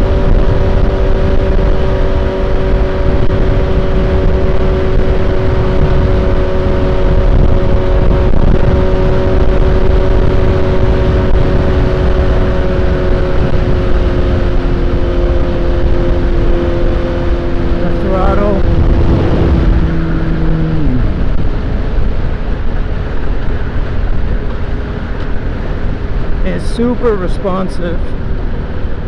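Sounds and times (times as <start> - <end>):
motorcycle engine cruising: 0.0 - 29.0
wind rush on microphone: 0.0 - 29.0.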